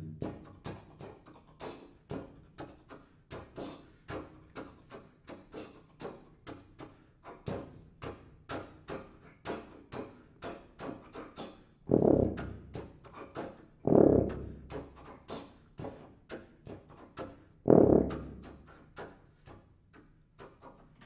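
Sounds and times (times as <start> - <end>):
tuba low notes: 0.0 - 4.2, 7.4 - 16.9, 17.6 - 21.0.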